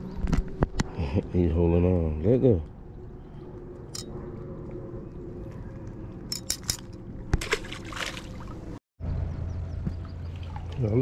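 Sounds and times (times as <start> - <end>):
low rumble of wind: 0.0 - 11.0.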